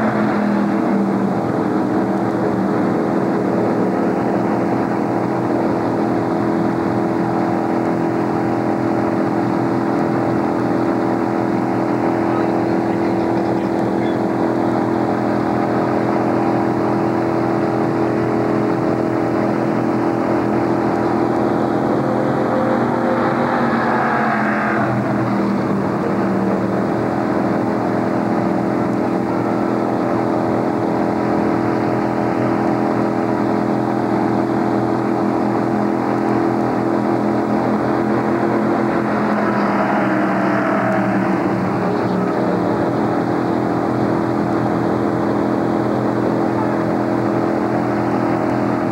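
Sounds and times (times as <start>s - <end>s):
race car engine idling: 0.0s - 48.9s
race cars passing by: 0.0s - 48.9s.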